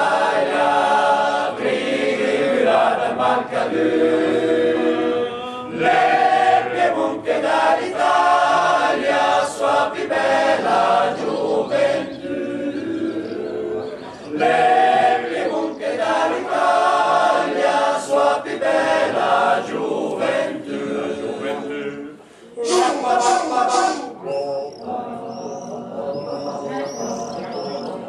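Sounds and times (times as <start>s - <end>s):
male choir singing a cappella: 0.0s - 28.0s.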